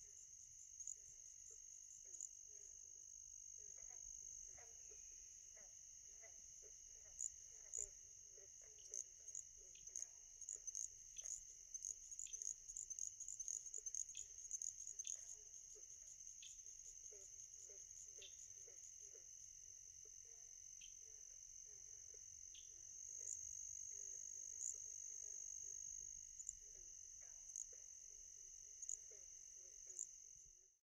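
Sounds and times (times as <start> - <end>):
crickets trilling: 0.0 - 30.6.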